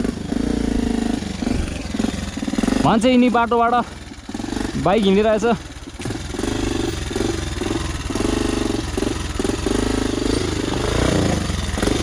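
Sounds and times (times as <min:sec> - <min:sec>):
dirt bike engine at low revs: 0:00.0 - 0:12.0.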